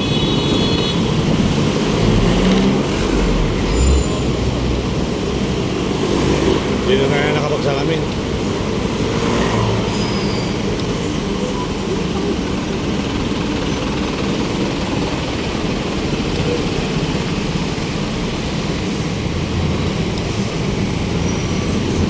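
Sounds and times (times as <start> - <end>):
city road traffic rumble: 0.0 - 22.0.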